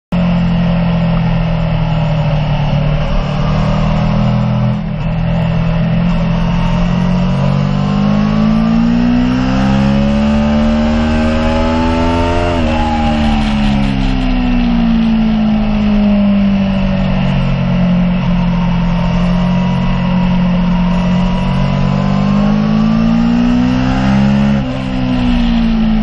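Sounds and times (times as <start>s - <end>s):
motorcycle engine accelerating: 0.1s - 26.0s.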